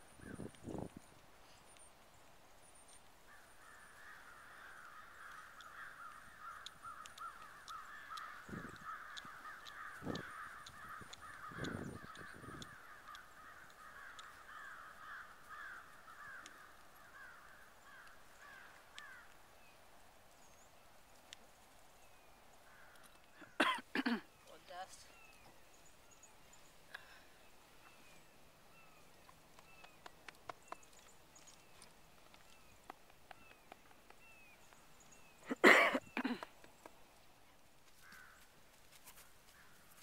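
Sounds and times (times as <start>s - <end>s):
flock of birds chattering: 3.3s - 19.8s, 22.0s - 38.4s.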